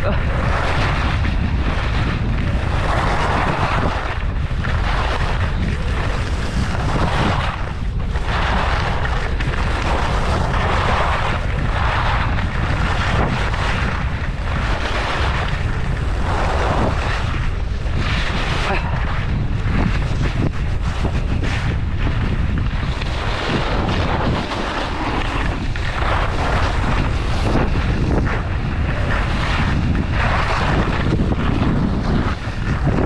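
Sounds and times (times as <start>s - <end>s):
skis scraping on snow: 0.0s - 33.0s
wind on microphone: 0.0s - 33.0s.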